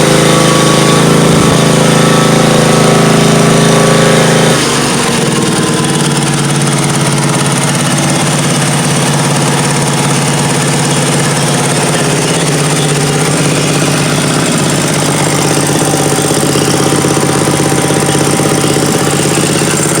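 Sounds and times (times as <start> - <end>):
lawnmower engine running: 0.0 - 20.0.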